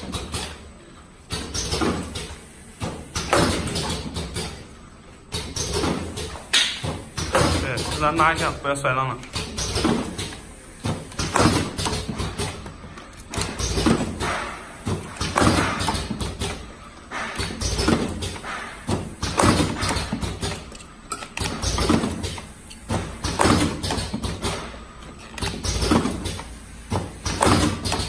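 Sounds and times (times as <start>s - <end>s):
packaging machine sliding and knocking: 5.3s - 28.0s.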